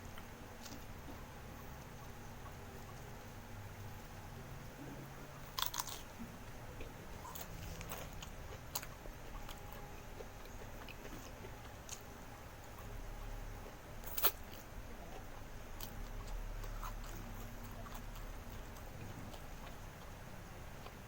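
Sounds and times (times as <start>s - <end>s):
faint low hum: 0.0s - 21.0s
person chewing crisp food: 0.2s - 3.1s, 5.4s - 21.0s.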